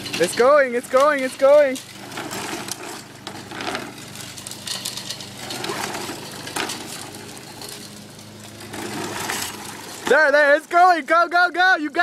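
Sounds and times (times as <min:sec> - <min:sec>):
knocks and clatter: 0:00.0 - 0:10.2
lawn mower engine idling: 0:00.0 - 0:12.0.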